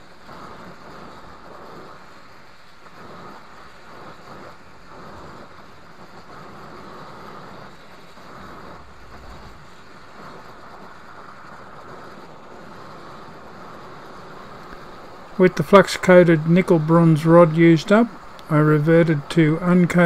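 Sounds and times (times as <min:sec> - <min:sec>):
torch flame rushing: 0:00.0 - 0:20.0.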